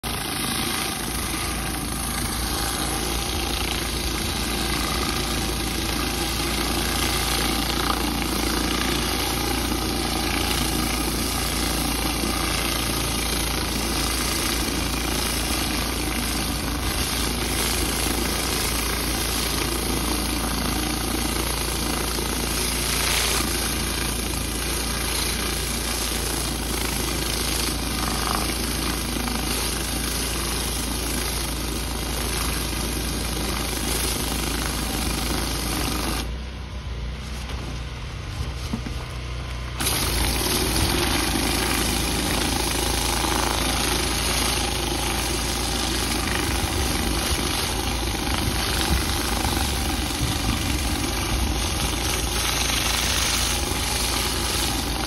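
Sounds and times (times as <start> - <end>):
high-pressure water jets hissing: 0.0 - 36.3, 39.8 - 55.0
pressure washer machine drone: 0.0 - 55.0.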